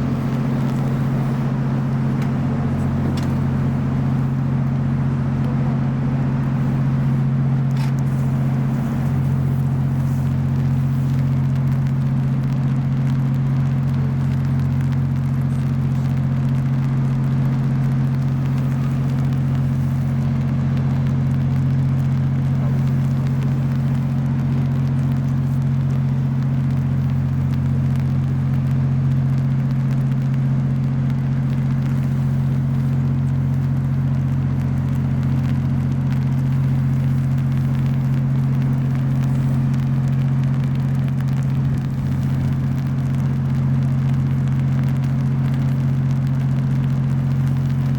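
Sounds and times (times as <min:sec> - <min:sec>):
ship engines droning: 0:00.0 - 0:28.6, 0:31.2 - 0:47.9.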